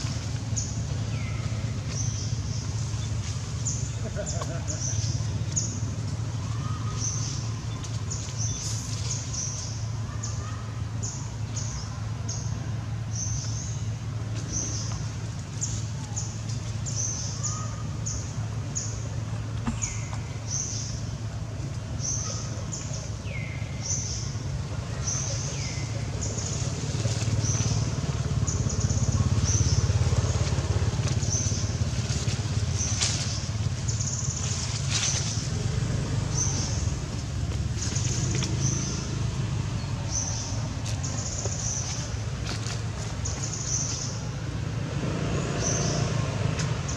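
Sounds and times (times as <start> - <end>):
steady low rumble: 0.0 - 45.1.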